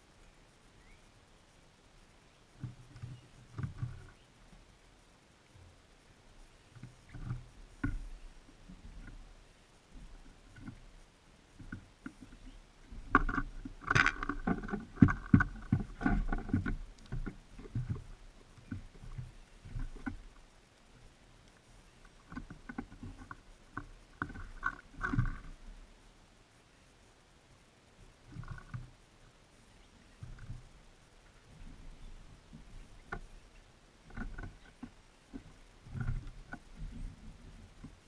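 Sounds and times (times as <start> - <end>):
birds pecking on a seed feeder: 2.0 - 4.8, 6.0 - 25.6, 29.6 - 38.0.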